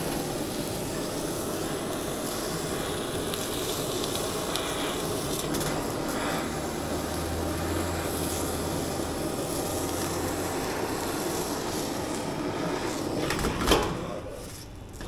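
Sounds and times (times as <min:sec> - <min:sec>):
ventilation rush: 0:00.0 - 0:15.0.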